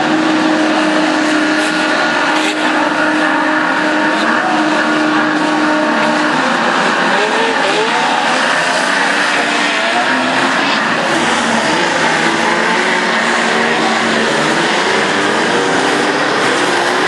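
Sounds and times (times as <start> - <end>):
racing car engines droning: 0.0 - 17.0.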